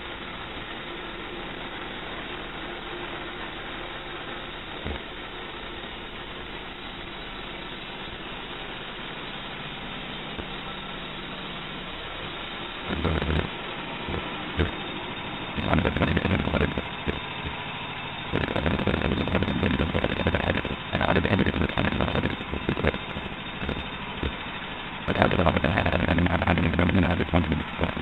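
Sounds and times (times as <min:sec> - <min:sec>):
sawmill gas engine running: 0:00.0 - 0:28.0.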